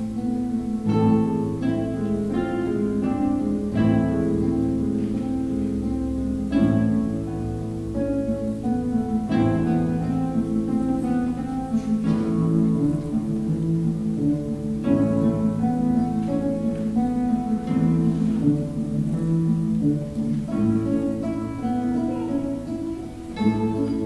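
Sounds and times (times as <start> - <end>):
classical guitar ensemble playing: 0.0 - 24.0.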